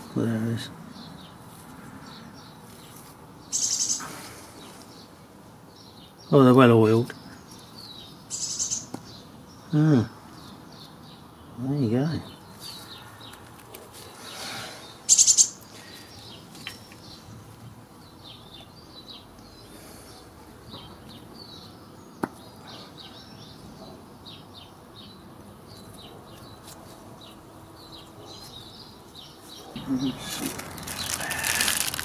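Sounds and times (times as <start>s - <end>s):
faint outdoor background noise: 0.0s - 32.0s
small birds chirping: 0.0s - 32.0s.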